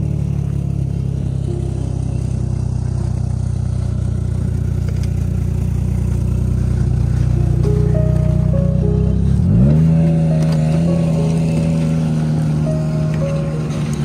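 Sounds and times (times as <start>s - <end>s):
snowmobile engine idling: 0.0s - 14.0s.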